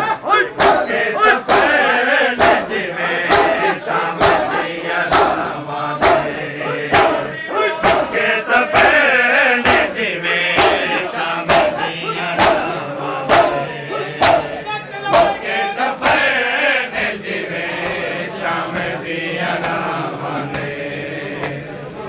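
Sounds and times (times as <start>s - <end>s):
crowd beating chests: 0.0s - 22.0s
men chanting a lament: 0.0s - 22.0s.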